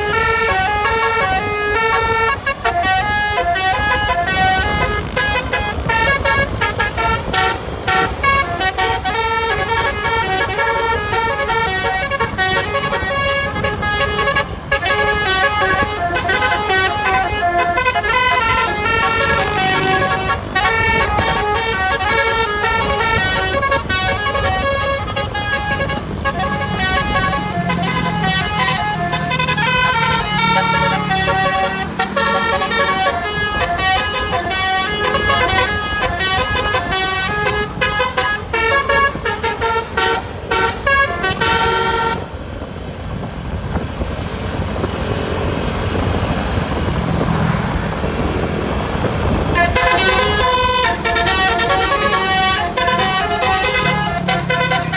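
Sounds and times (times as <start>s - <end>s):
bus melody horn playing a tune: 0.0s - 42.7s, 44.8s - 54.9s.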